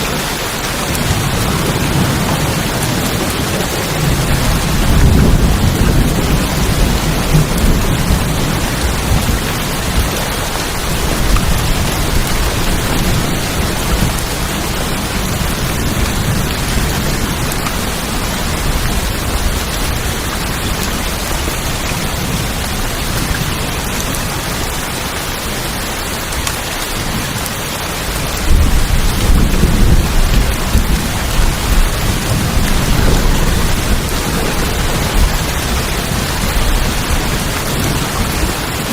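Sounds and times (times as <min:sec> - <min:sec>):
thunder rumbling: 0:00.0 - 0:25.1, 0:25.7 - 0:38.9
rain on a tin roof: 0:00.0 - 0:38.9.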